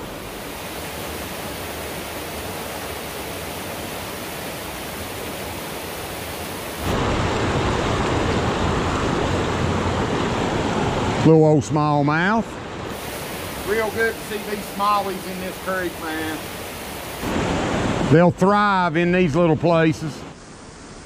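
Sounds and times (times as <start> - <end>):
creek water rushing over rocks: 0.0 - 18.1.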